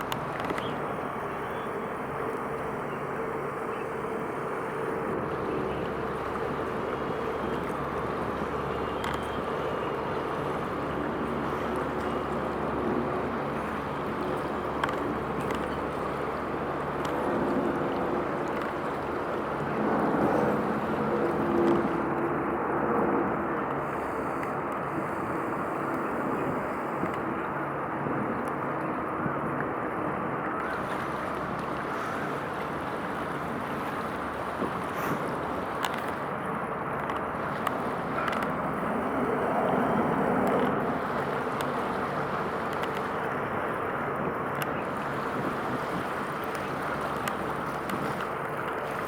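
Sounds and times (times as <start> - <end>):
boat engine drone: 0.0 - 49.0
water noise: 0.0 - 49.0
wind: 0.0 - 49.0.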